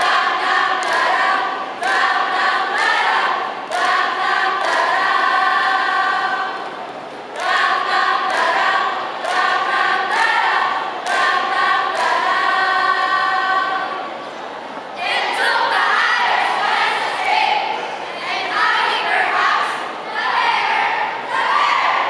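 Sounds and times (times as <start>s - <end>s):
women singing in unison: 0.0s - 14.0s, 15.0s - 22.0s.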